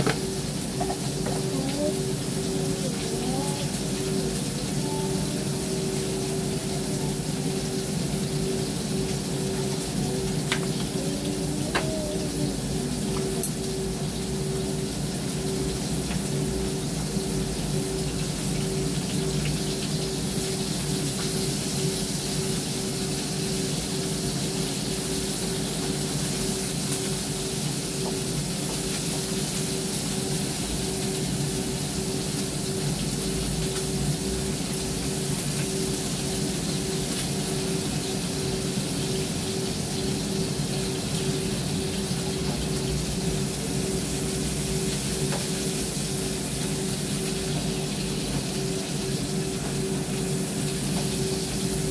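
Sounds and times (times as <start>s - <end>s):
extractor fan humming: 0.0s - 51.9s
food sizzling in a pan: 0.0s - 51.9s.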